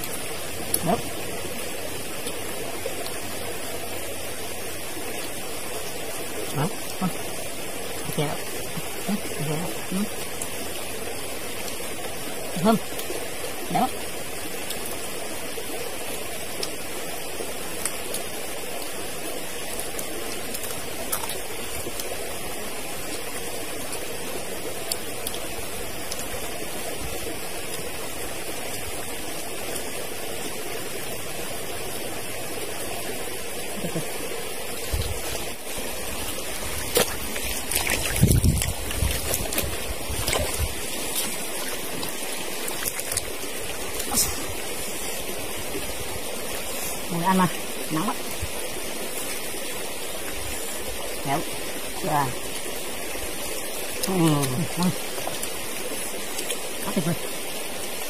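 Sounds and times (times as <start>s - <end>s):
mountain stream running: 0.0s - 58.0s.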